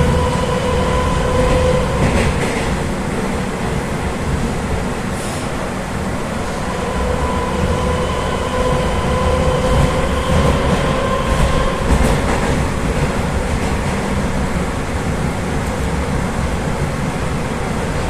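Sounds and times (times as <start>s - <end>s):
metro train rumbling: 0.0s - 18.0s.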